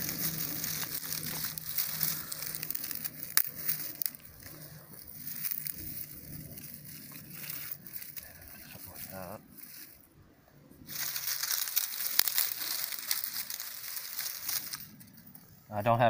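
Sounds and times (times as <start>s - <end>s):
dry twigs crackling: 0.0s - 15.8s.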